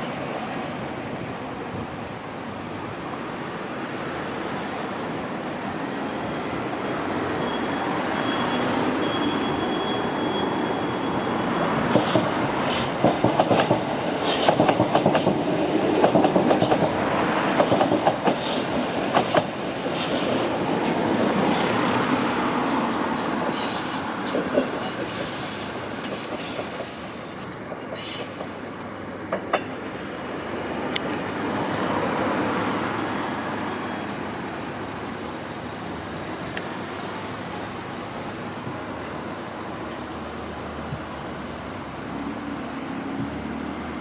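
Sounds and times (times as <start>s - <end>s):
train rolling: 0.0s - 44.0s.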